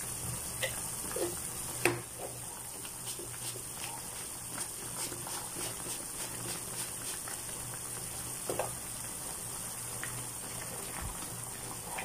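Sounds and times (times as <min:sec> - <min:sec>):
soup boiling and bubbling: 0:00.0 - 0:12.0.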